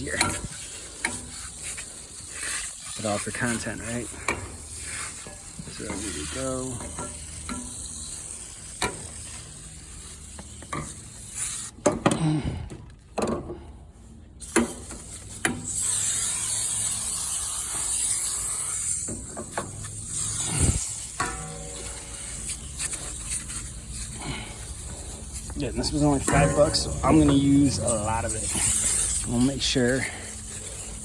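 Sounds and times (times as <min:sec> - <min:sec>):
aerosol can spraying hiss: 0:00.0 - 0:11.8, 0:14.4 - 0:31.0.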